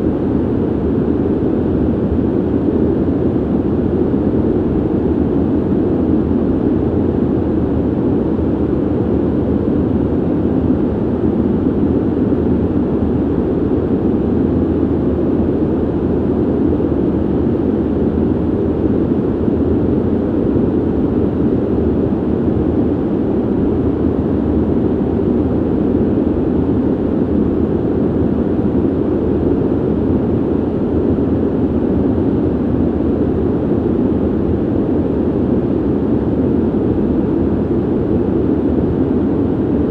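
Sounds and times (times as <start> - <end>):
ventilation air rushing: 0.0 - 39.9.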